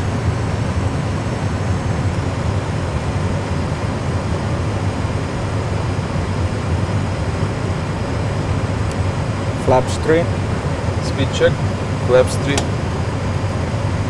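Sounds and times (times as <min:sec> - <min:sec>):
aircraft engine rumble with hiss: 0:00.0 - 0:14.0.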